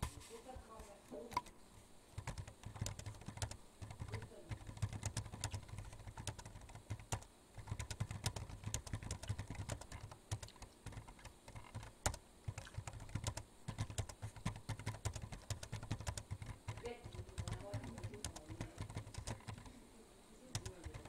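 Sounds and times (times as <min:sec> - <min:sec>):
keyboard typing clicks: 0:02.2 - 0:19.8, 0:20.5 - 0:21.0.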